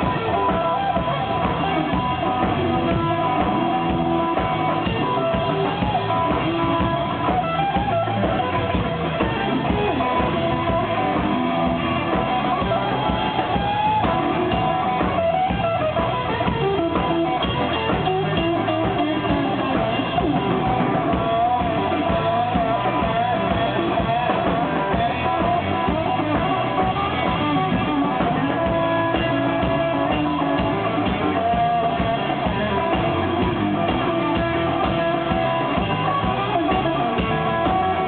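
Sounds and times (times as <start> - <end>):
electric guitar: 0.0 - 38.0
live rock band playing: 0.0 - 38.0.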